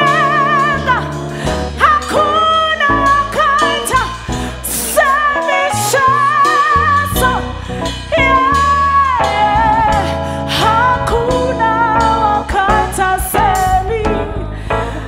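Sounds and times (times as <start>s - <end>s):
band with drums: 0.0s - 13.9s
woman singing with vibrato: 0.0s - 15.0s.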